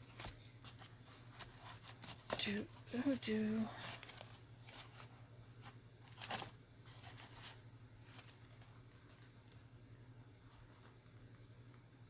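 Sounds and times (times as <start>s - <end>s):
paper and thread rustling: 0.0s - 9.7s
low steady hum: 0.0s - 12.0s.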